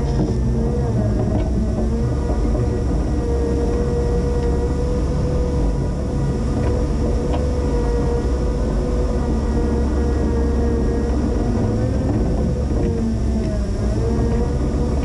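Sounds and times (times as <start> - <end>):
forklift engine running: 0.0 - 15.0
steady whine: 0.0 - 15.0.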